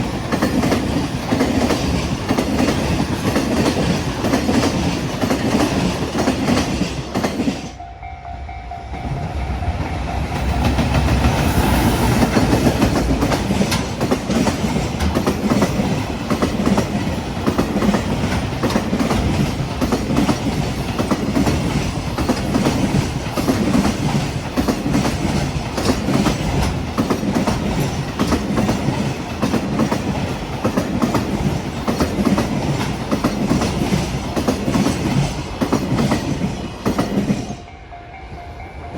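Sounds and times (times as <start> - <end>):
train wheels clickety-clack: 0.0 - 7.8, 9.0 - 37.7
freight train rolling past: 0.0 - 38.9.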